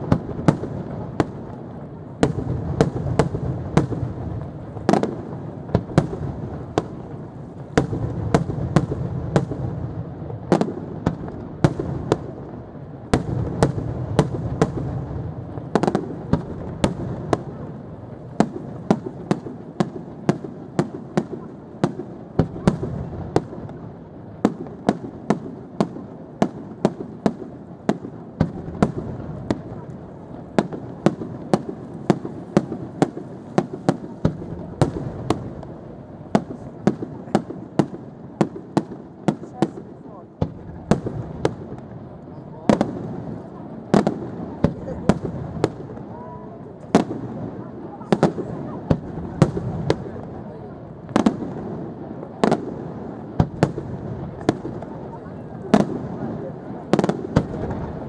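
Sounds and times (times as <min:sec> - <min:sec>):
low rumble of fireworks: 0:00.0 - 0:58.0.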